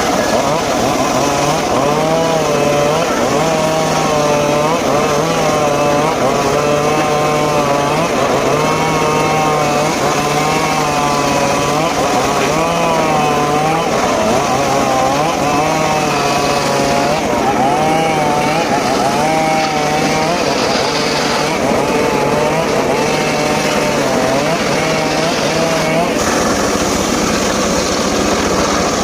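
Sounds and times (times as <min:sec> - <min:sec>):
petrol saw cutting wood: 0:00.0 - 0:29.0.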